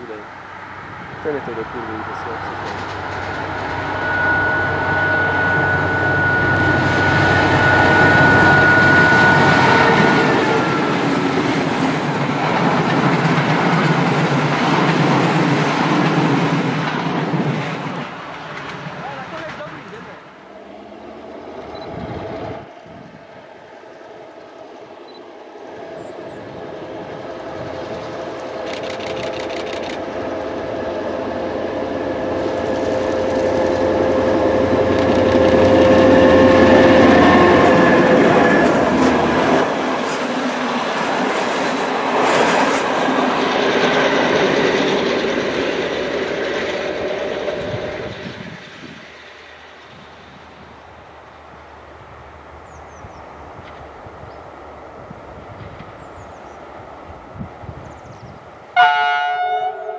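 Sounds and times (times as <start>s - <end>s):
train passing by: 0.0s - 59.9s.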